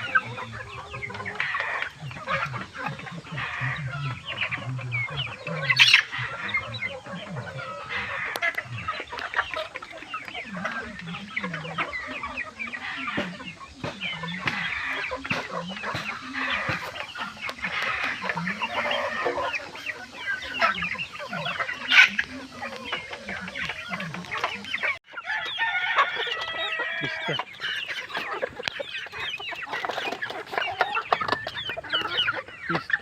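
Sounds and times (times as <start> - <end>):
chickens clucking and chirping: 0.0 - 33.0.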